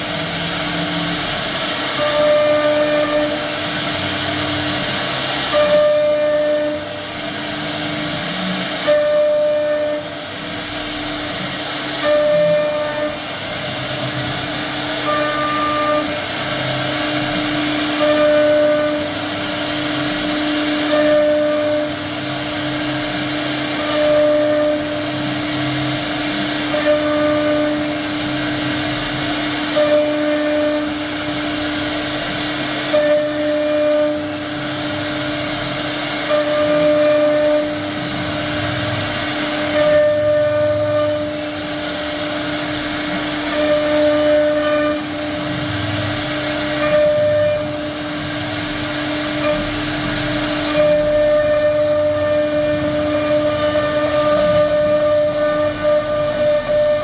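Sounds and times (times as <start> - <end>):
router spindle whine and hiss: 0.0 - 57.0.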